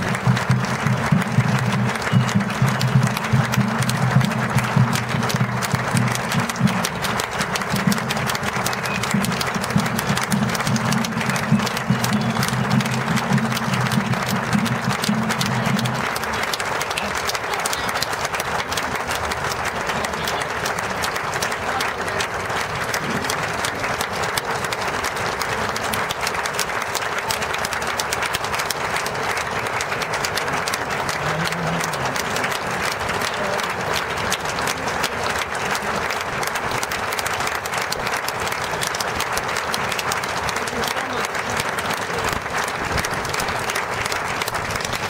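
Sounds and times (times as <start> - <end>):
crowd applauding: 0.0 - 45.0.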